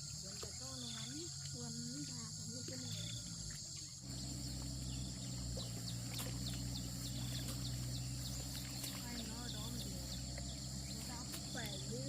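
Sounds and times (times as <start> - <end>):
insect chorus: 0.0 - 12.0
short insect chirps: 0.0 - 12.0
steady low hum: 0.0 - 12.0.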